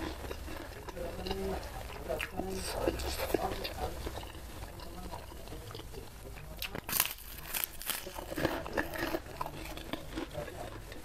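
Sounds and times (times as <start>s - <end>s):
cracker crunching: 0.0s - 11.0s.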